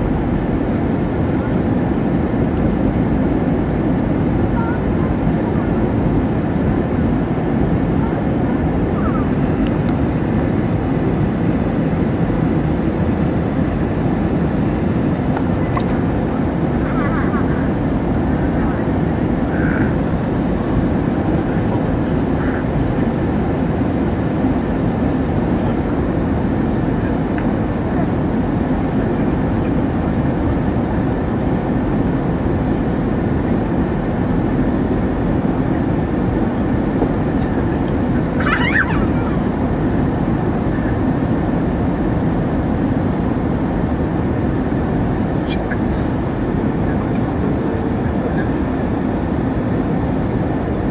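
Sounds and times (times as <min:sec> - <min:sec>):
jet engine cabin roar: 0:00.0 - 0:50.9.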